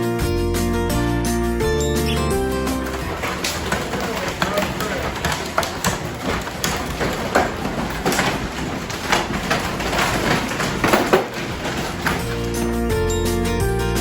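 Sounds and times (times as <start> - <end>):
footsteps crunching: 1.8 - 13.2.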